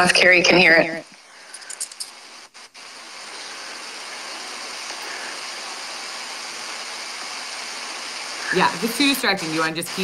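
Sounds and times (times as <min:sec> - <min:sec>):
phone line hiss: 0:00.0 - 0:10.0.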